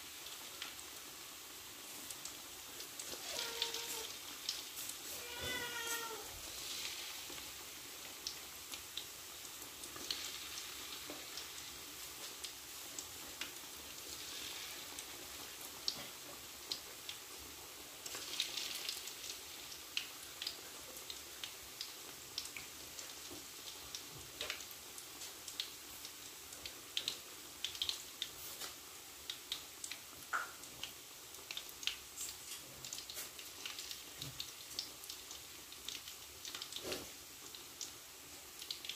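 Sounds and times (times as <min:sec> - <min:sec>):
meat sizzling in hot oil: 0:00.0 - 0:38.9
oil popping and crackling: 0:00.0 - 0:38.9.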